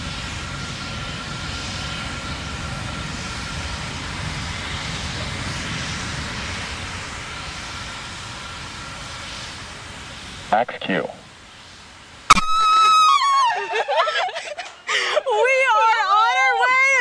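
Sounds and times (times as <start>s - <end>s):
distant rocket engine rumble: 0.0s - 17.0s.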